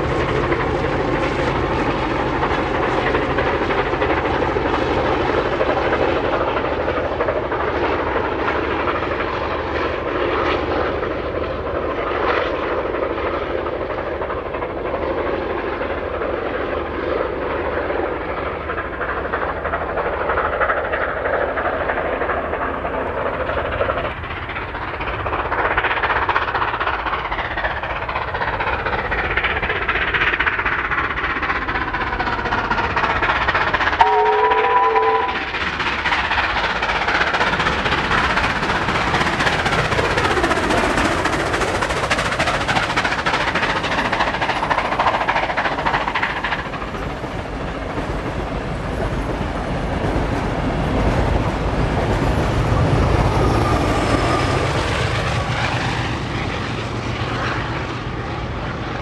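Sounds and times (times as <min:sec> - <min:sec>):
steam locomotive running: 0:00.0 - 0:59.0.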